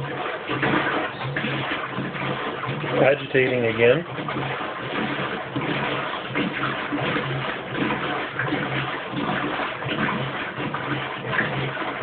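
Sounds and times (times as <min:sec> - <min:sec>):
washing machine agitating: 0:00.0 - 0:12.0.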